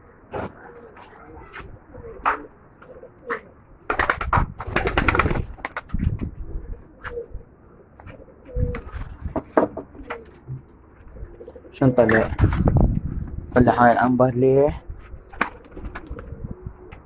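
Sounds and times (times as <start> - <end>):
pigeons cooing: 0.3 - 12.8, 15.2 - 17.0.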